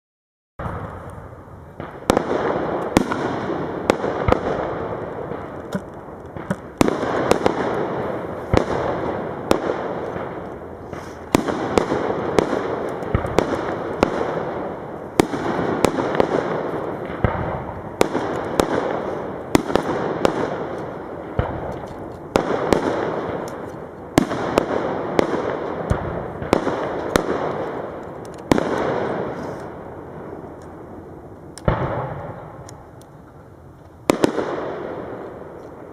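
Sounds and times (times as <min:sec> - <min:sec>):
fireworks bangs: 0:00.6 - 0:35.9
fireworks crackle: 0:00.6 - 0:35.9.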